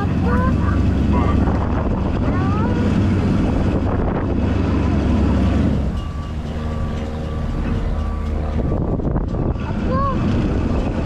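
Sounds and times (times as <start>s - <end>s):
vehicle engine rumbling: 0.0s - 11.0s
wind on microphone: 0.0s - 11.0s.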